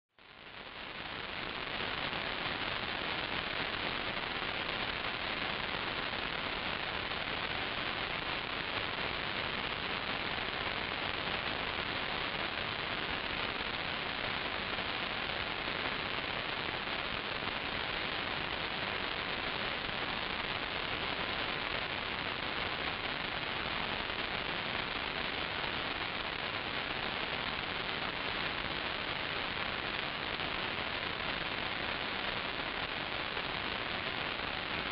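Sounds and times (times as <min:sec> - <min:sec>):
static hiss: 0:00.2 - 0:34.9.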